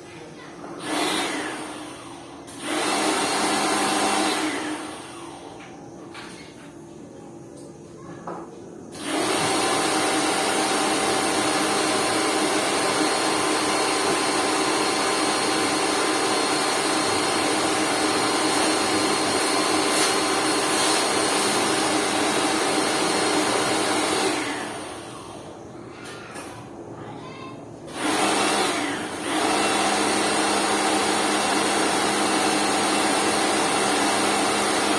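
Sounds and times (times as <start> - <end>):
pressure washer motor running: 0.8 - 5.6, 8.9 - 25.5, 27.9 - 34.9.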